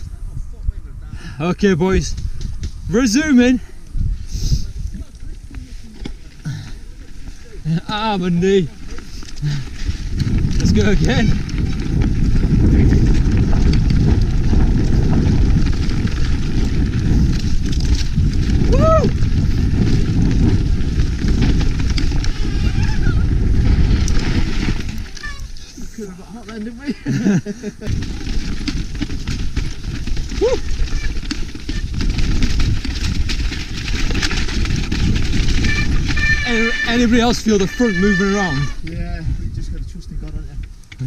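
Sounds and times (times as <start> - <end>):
wind buffeting microphone: 0.0 - 41.0
bike clicks and rattles: 2.0 - 3.2, 4.7 - 39.0.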